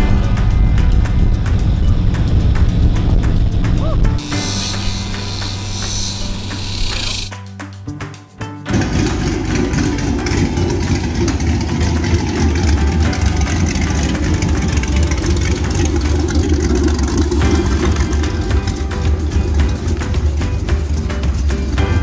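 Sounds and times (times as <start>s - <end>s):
boat engine idling: 0.0s - 7.3s, 8.7s - 22.0s.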